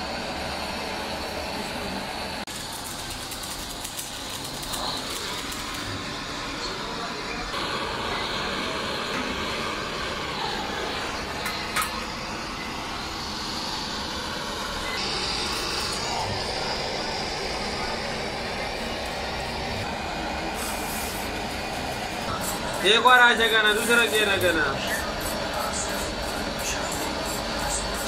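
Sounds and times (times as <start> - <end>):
gas torch running: 0.0 - 28.0
workshop noise: 0.0 - 28.0.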